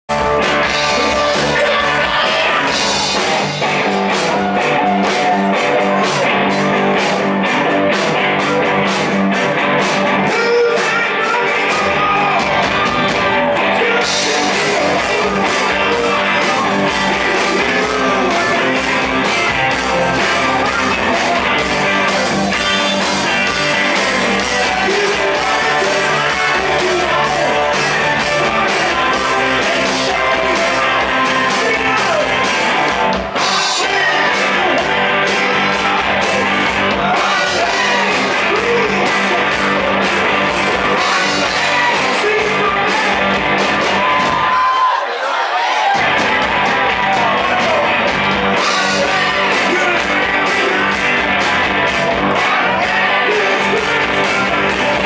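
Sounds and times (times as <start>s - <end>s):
drums: 0.0s - 55.0s
electric guitars: 0.1s - 44.9s, 45.8s - 55.0s
lead singing: 0.3s - 6.5s, 10.0s - 55.0s.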